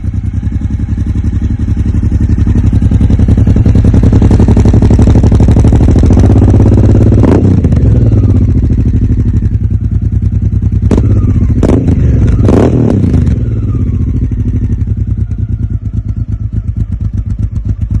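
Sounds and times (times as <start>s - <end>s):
motorcycle engine with throttle blips: 0.0s - 18.0s.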